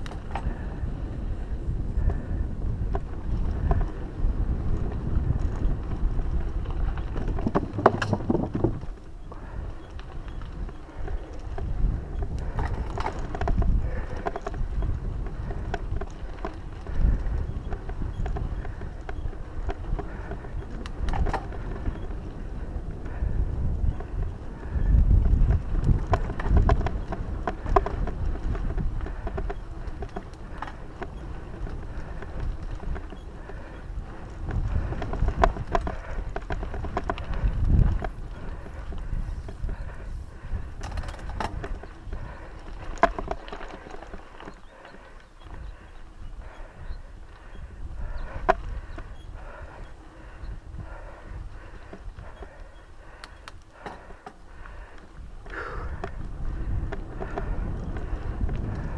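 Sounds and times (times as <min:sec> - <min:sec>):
bike clicking and rattling: 0:00.0 - 0:58.9
wind rumble on microphone: 0:00.0 - 0:58.9.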